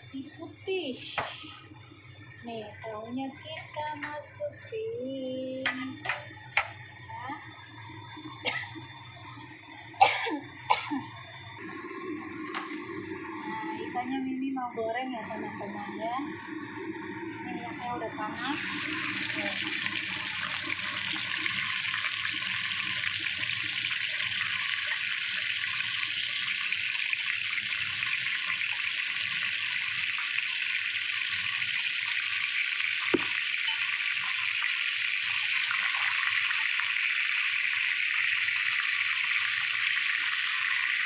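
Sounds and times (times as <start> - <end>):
fish frying in hot oil: 0.0 - 14.3, 15.1 - 41.0.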